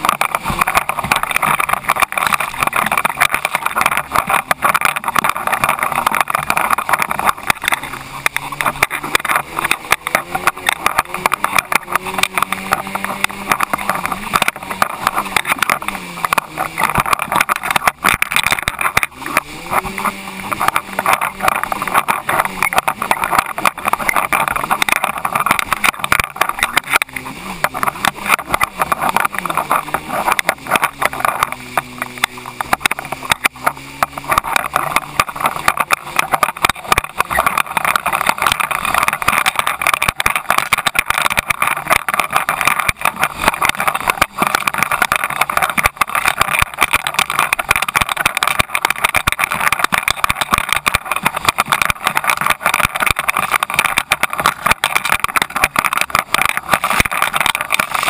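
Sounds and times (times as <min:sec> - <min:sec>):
jet ski engine running: 0:00.0 - 0:58.0
rush of spray and water: 0:00.0 - 0:58.0.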